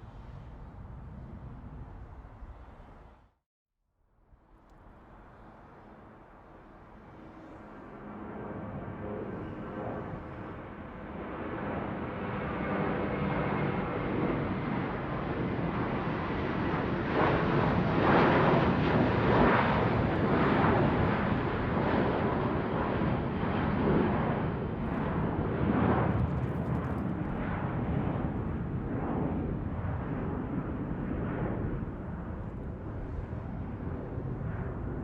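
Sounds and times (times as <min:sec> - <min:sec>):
airplane engine rumble overhead: 0:00.0 - 0:03.4, 0:04.2 - 0:35.0.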